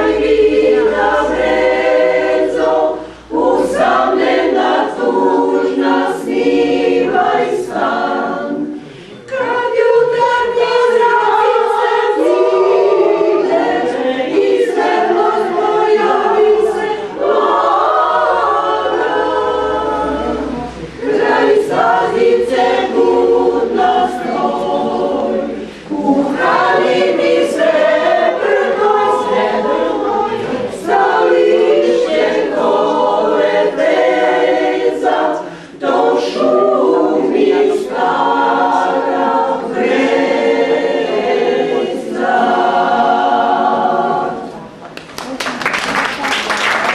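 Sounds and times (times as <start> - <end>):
women's choir singing a cappella: 0.0 - 44.9.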